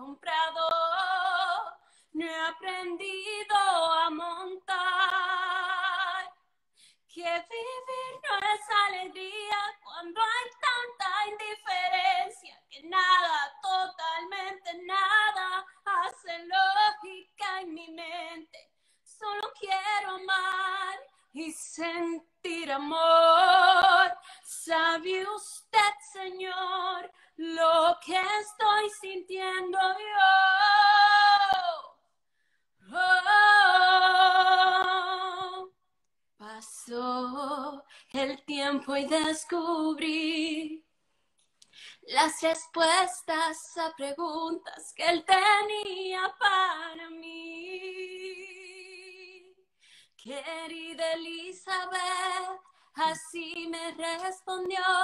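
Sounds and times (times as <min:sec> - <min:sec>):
woman singing a cappella: 0:00.0 - 0:32.0, 0:32.8 - 0:35.8, 0:36.4 - 0:40.9, 0:41.9 - 0:49.6, 0:50.2 - 0:55.0.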